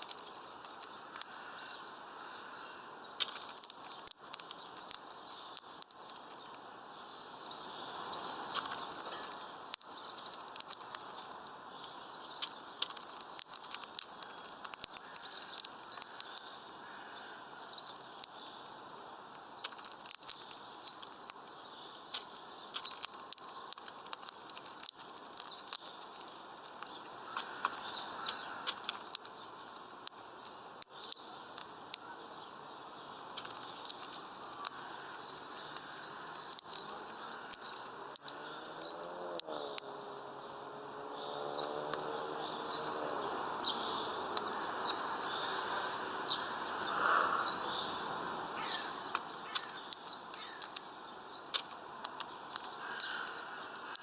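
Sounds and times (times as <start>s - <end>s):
bird cracking seeds clicks: 0.0s - 6.6s, 8.5s - 18.8s, 19.4s - 40.0s, 40.6s - 54.0s
small birds chirping: 0.0s - 54.0s.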